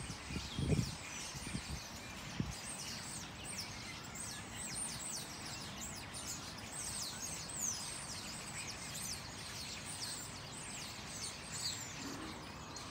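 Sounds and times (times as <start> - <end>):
sparrows chirping: 0.0 - 12.9.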